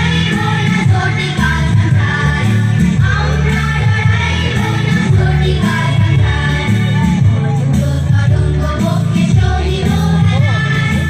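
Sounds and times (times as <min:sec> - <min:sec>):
song with pulsing bass: 0:00.0 - 0:11.0.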